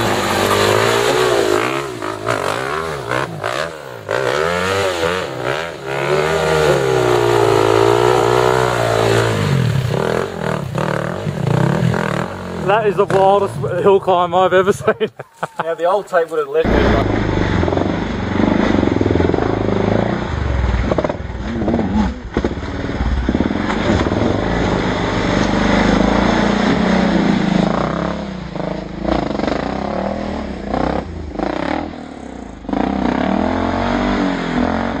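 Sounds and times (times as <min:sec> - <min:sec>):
dirt bike engine revving: 0:00.0 - 0:14.9, 0:16.1 - 0:35.0.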